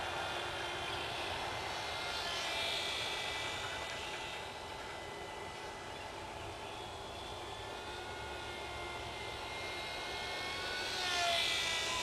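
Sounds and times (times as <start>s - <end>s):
rc plane motor whining: 0.0s - 12.0s.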